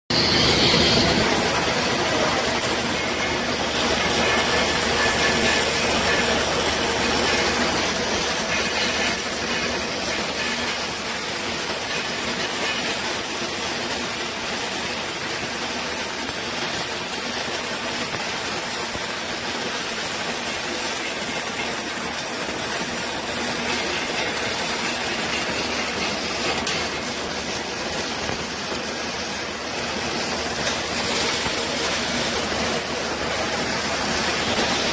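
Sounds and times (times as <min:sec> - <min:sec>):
welding arc hissing: 0:00.1 - 0:34.9.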